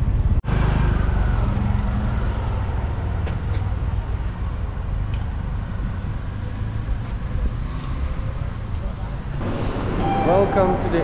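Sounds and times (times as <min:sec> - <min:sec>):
heavy traffic engine rumble: 0:00.0 - 0:11.0.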